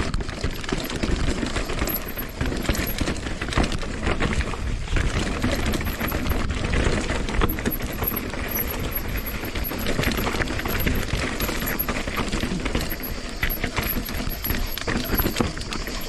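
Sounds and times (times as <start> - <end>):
bike rattling: 0.0 - 16.0
tyres crunching over stones: 0.0 - 16.0.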